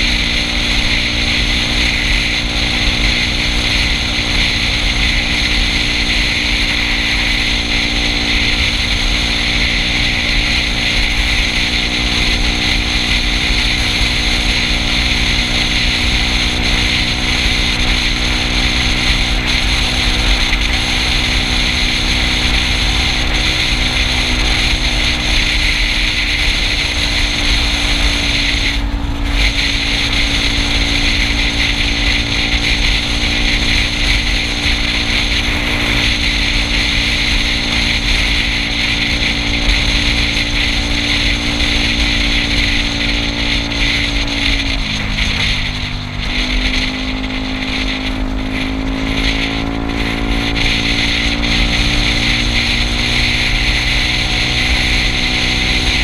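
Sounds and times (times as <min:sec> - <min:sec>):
scooter engine running: 0:00.0 - 0:56.0
wind and road noise: 0:00.0 - 0:56.0.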